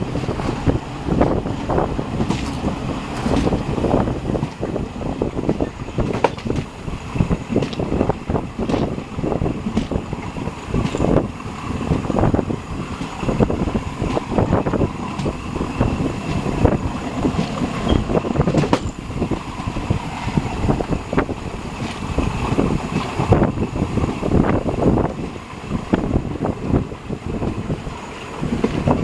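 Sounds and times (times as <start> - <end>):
train knocks and rattles: 0.0 - 29.0
train rumbling on track: 0.0 - 29.0
wind noise on microphone: 0.0 - 29.0.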